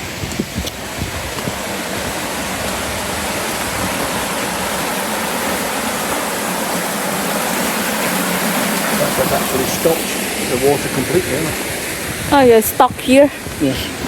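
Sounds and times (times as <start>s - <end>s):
stream water rushing: 0.0s - 14.0s
wind buffeting microphone: 0.0s - 14.0s.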